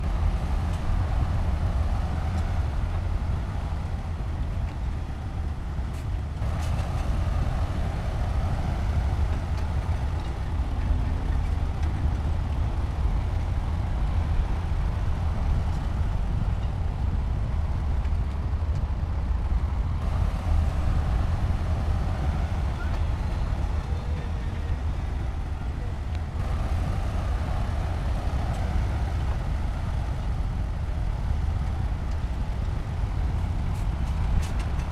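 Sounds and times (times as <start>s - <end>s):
heavy diesel engine rumbling: 0.0s - 34.9s.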